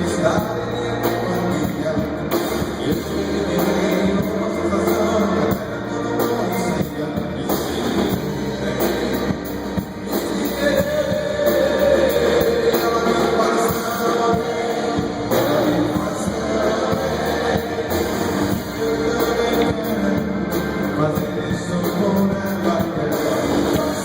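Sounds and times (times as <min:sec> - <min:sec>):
person singing: 0:00.0 - 0:24.0
pop-rock song with guitar: 0:00.0 - 0:24.0.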